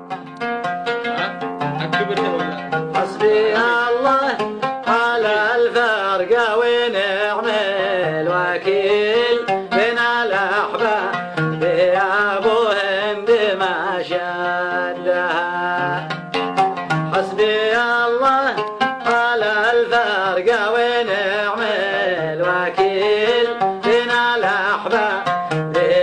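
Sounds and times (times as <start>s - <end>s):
plucked strings: 0.0s - 26.0s.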